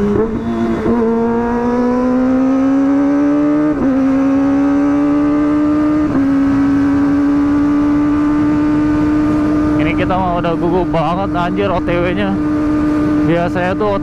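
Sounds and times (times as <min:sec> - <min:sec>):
motorcycle engine shifting gears: 0:00.0 - 0:14.0.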